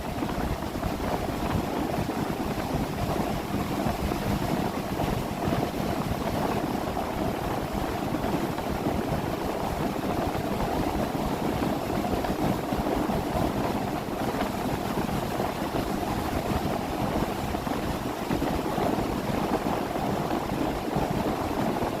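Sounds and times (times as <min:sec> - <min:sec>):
wind noise: 0:00.0 - 0:22.0.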